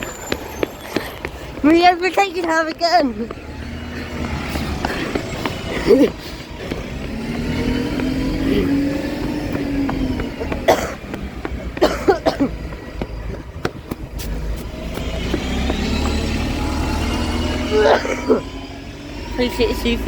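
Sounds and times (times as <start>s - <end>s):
vehicle engine passing: 0.0s - 20.0s.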